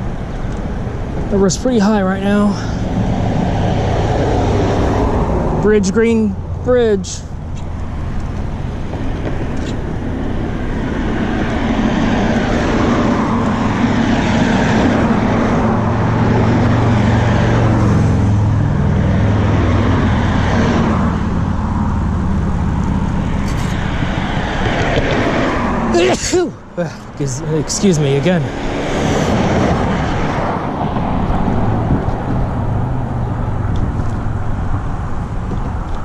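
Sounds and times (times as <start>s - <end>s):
cars passing by: 0.0s - 36.0s
vehicle low engine hum: 0.0s - 36.0s.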